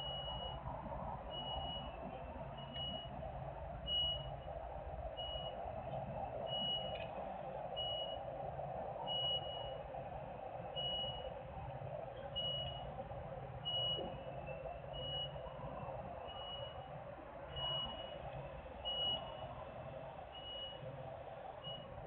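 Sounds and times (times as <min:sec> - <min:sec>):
reversing alarm beep: 0:00.0 - 0:00.6, 0:01.3 - 0:03.2, 0:03.8 - 0:08.4, 0:09.0 - 0:11.5, 0:12.2 - 0:13.0, 0:13.6 - 0:22.0
engine and machinery drone: 0:00.0 - 0:22.0.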